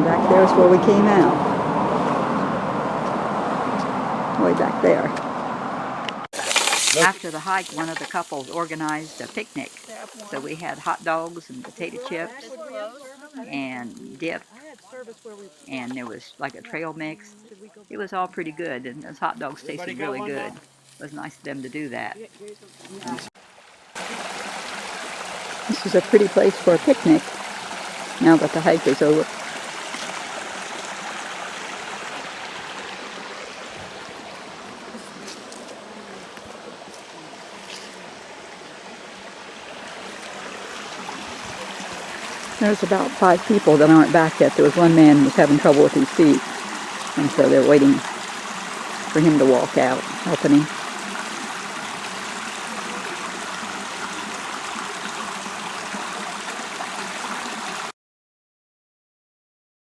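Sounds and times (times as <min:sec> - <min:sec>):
stream water rushing: 0:00.0 - 0:17.9, 0:22.7 - 0:57.9.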